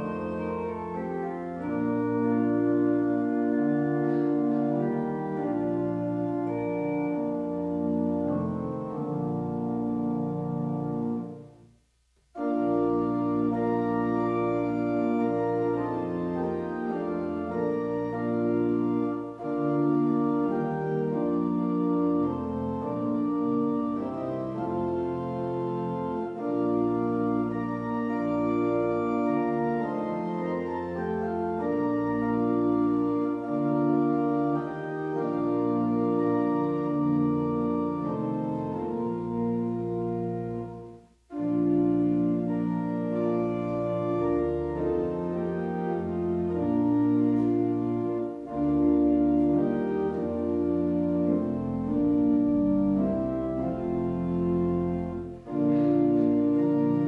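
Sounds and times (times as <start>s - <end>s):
organ playing sustained chords: 0.0s - 11.7s, 12.3s - 57.0s.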